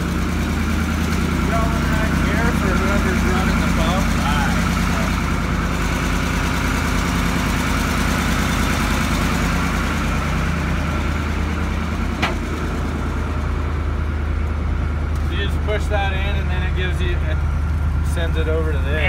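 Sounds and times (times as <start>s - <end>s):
fire truck diesel engine running: 0.0s - 19.0s.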